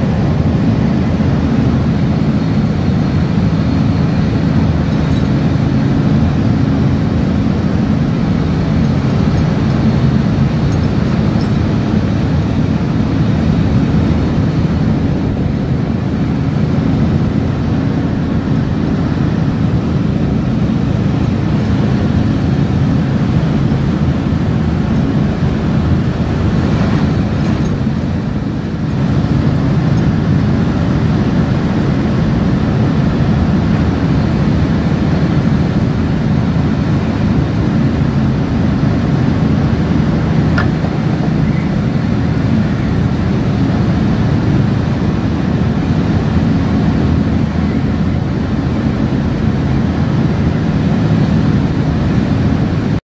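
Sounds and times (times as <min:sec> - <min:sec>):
ship engines droning: 0:00.0 - 0:53.0.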